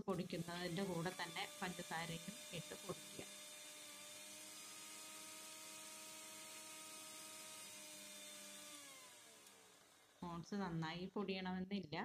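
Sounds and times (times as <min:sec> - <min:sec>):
mixer grinder motor humming: 0:00.0 - 0:10.7.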